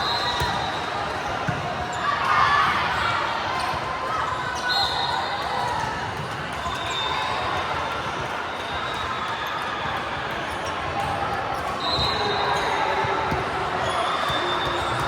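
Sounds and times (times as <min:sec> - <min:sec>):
many voices chattering: 0:00.0 - 0:15.0.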